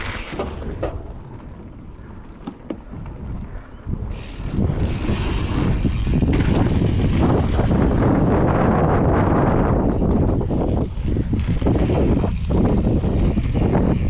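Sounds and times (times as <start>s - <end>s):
bike clicks and rattles: 0.0s - 14.0s
bike tyres rumbling over dirt: 0.0s - 14.0s
wind buffeting microphone: 0.0s - 14.0s.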